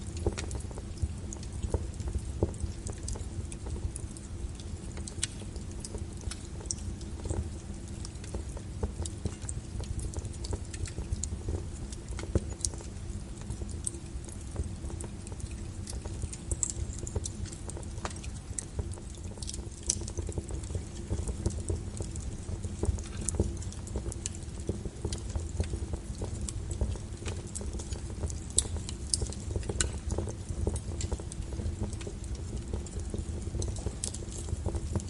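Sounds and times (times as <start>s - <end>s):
flames low rumble: 0.0s - 35.0s
logs crackling and popping: 0.0s - 35.0s.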